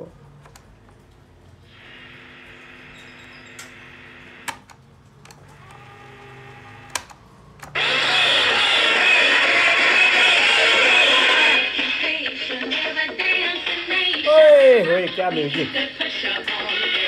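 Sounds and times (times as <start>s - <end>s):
tape hiss and hum: 0.0s - 17.0s.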